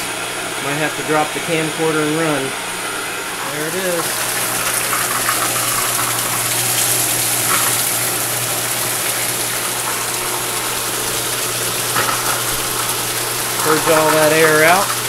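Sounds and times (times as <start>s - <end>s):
pump humming: 0.0s - 15.0s
water and air gushing from pipe: 0.0s - 15.0s.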